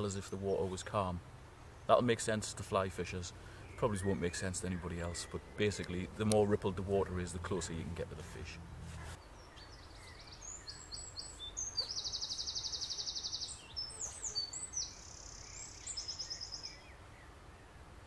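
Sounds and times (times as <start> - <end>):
songbird singing with trills: 3.1 - 17.7.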